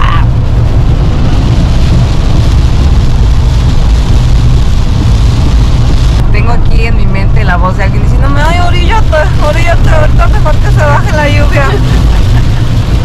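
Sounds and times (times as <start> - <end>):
hiss of spray and rain: 0.0 - 13.0
tyres rumbling on wet road: 0.0 - 13.0.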